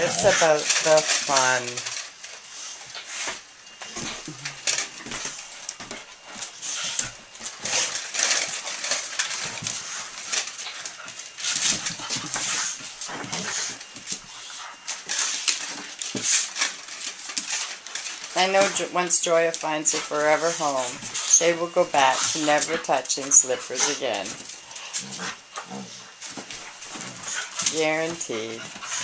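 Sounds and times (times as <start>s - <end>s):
dogs whimpering and growling: 0.0s - 1.7s, 2.6s - 29.0s
dogs scuffling on wooden floor: 0.0s - 29.0s.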